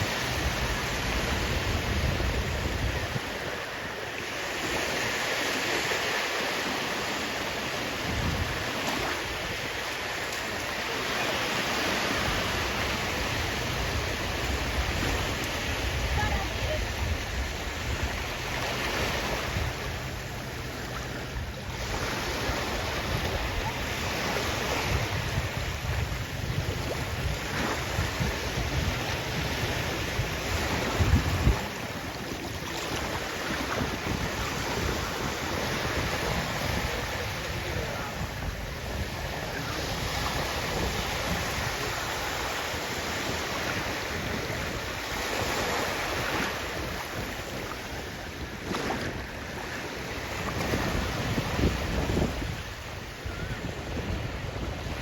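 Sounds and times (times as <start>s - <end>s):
wind buffeting microphone: 0.0s - 11.0s, 11.6s - 55.0s
sea waves breaking on shore: 0.0s - 55.0s.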